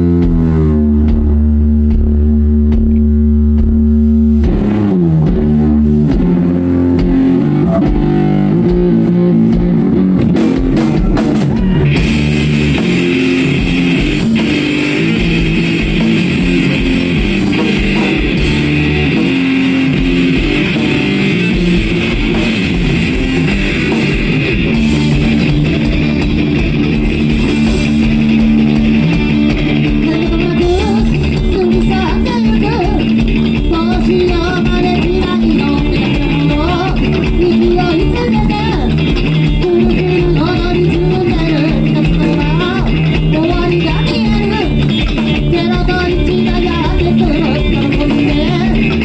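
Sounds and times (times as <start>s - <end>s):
bass guitar: 0.0s - 49.0s
drum kit: 0.0s - 49.0s
electric guitar: 0.0s - 49.0s.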